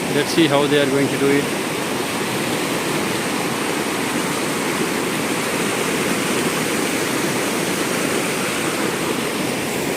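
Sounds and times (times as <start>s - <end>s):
river rushing over stones: 0.0s - 9.9s.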